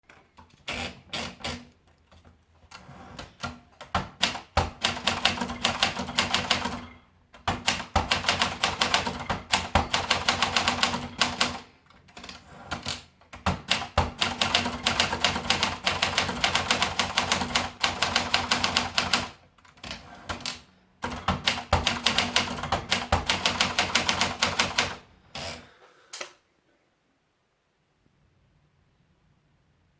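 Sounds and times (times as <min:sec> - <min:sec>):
manual typewriter typing: 0:00.4 - 0:25.5.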